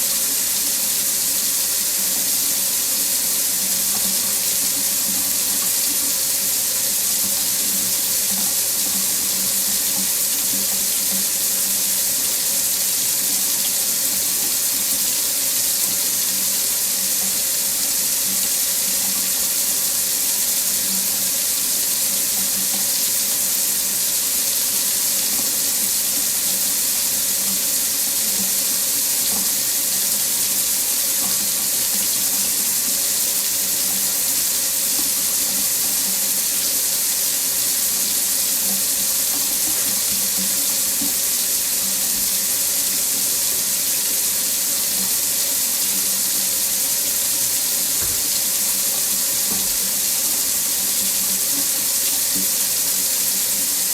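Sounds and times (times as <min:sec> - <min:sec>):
faucet running into sink: 0:00.0 - 0:53.9.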